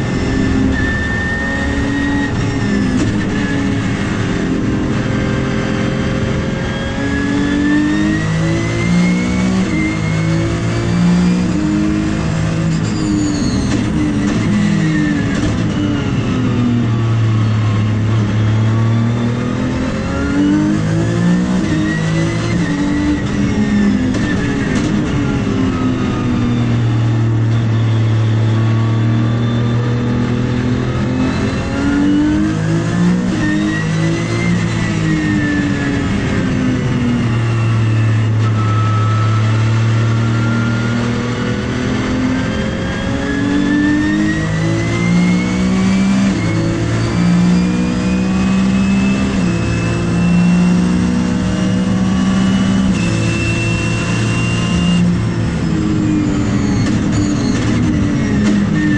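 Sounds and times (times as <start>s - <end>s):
racing car engine revving: 0.0s - 58.9s.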